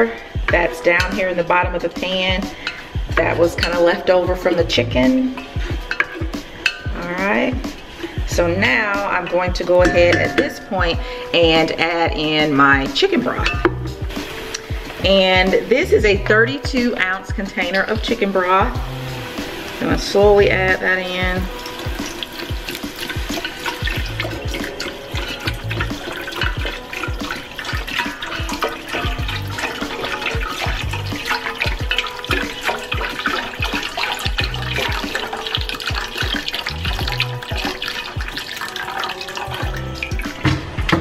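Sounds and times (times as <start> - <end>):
broth pouring into a pot: 0.0 - 15.7, 16.9 - 41.0
wooden spoon stirring in a pot: 0.0 - 15.8, 16.6 - 41.0
liquid splashing: 0.0 - 41.0.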